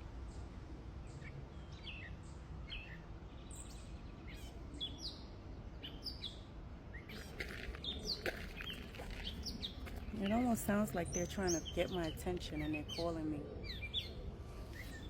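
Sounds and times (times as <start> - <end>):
birds chirping: 0.2 - 15.0.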